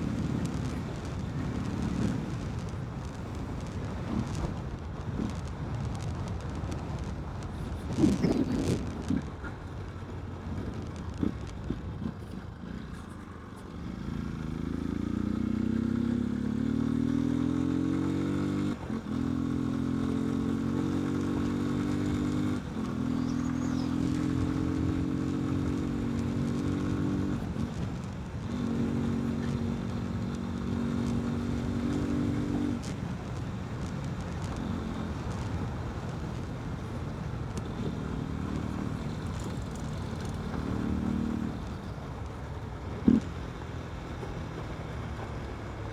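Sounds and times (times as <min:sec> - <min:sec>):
motorcycle engine accelerating: 0:00.0 - 0:04.6, 0:13.7 - 0:45.9.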